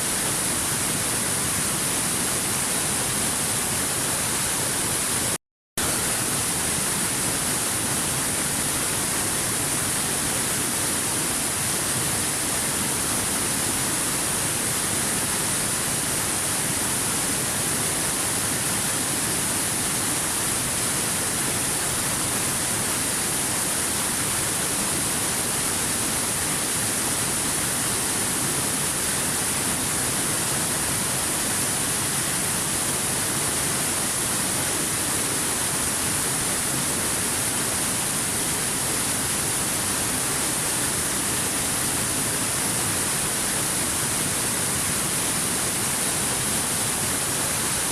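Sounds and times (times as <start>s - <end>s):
rush of falling water: 0.0s - 47.9s.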